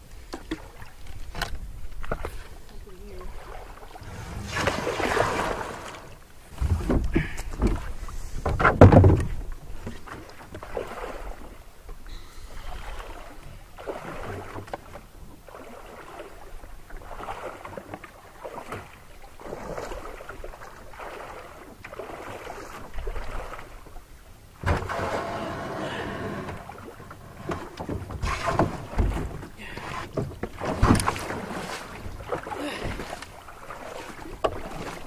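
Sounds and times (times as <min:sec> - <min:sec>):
water lapping against canoe hull: 0:00.0 - 0:35.0
paddle strokes: 0:00.1 - 0:24.0, 0:24.6 - 0:35.0.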